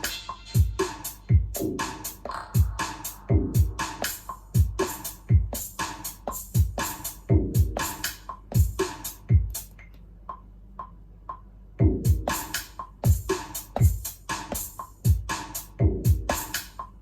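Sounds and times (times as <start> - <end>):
hi-hat and snare hits: 0.0 - 17.0
deep kick drums: 0.6 - 9.7, 11.8 - 16.6.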